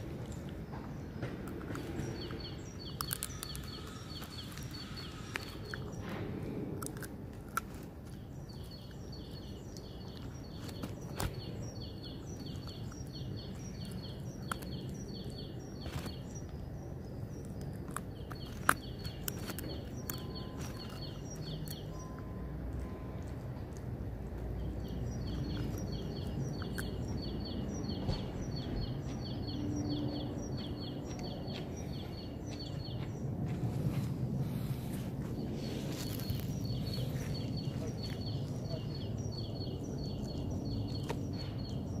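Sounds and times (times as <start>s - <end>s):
puppy gnawing stick: 0.0s - 29.7s, 34.5s - 42.0s
low outdoor rumble: 0.0s - 42.0s.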